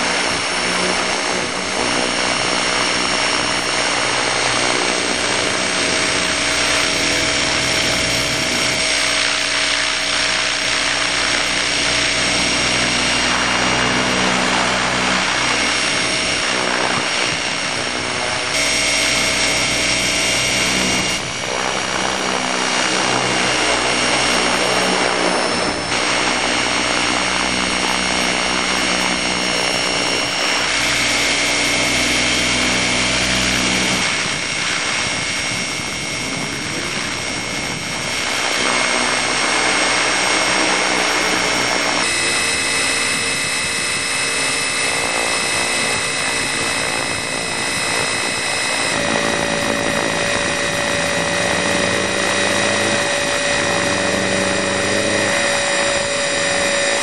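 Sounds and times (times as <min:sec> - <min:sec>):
rc helicopter motor whine: 0:00.0 - 0:57.0.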